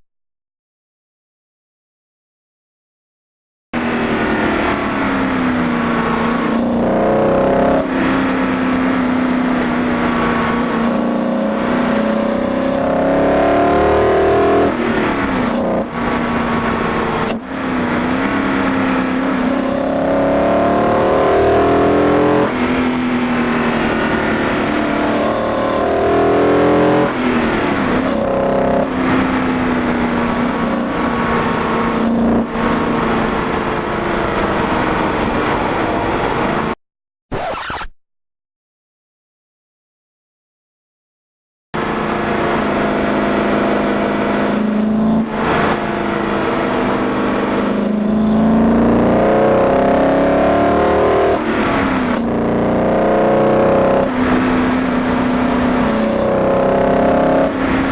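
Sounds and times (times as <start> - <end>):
car engine accelerating through gears: 3.8 - 36.8, 41.8 - 57.9.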